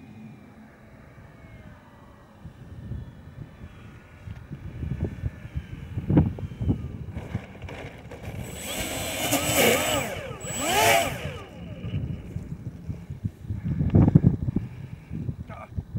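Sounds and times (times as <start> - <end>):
propeller motors whining: 0.0 - 15.9.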